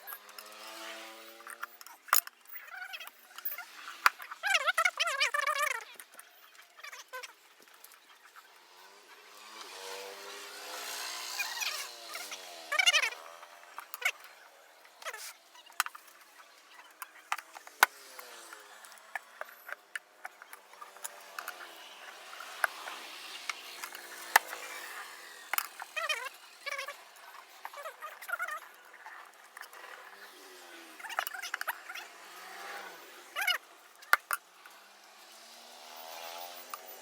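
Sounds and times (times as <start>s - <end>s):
metal clicks of tyre tools: 0.0s - 4.7s, 11.4s - 37.0s.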